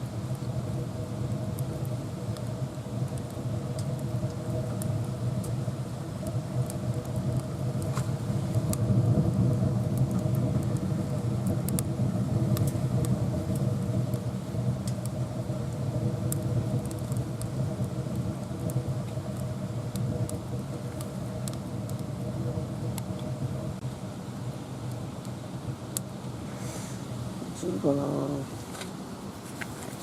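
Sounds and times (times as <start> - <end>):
wood stove fire crackling: 0.0 - 30.0.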